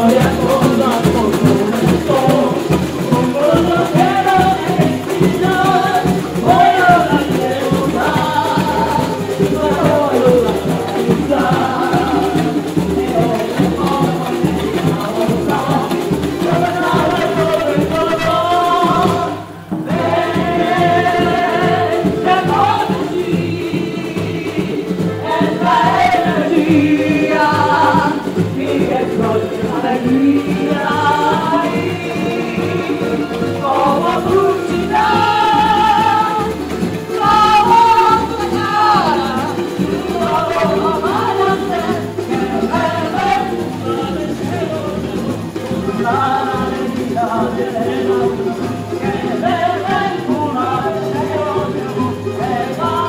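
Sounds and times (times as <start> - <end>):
samba singing over drum beat: 0.0 - 53.0.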